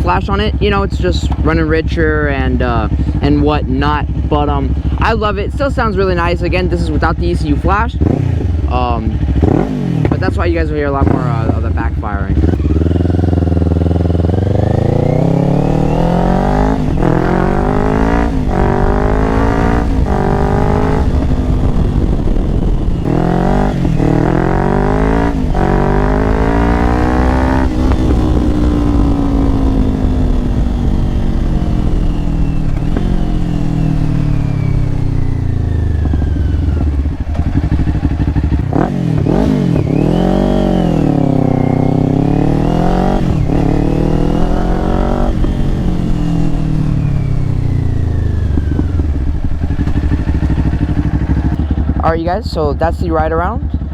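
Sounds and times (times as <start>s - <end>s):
exhaust backfiring cracks: 0.0s - 53.9s
motorcycle engine accelerating: 0.0s - 53.9s.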